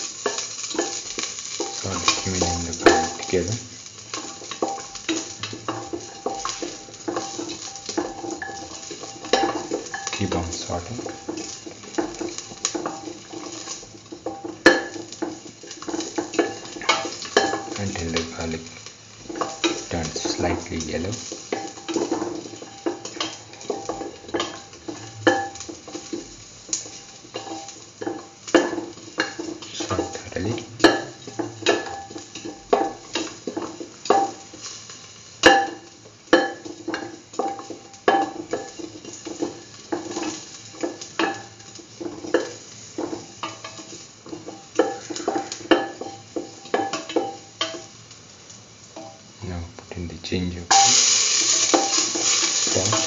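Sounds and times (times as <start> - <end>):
light sizzle of oil: 0.0 - 53.0.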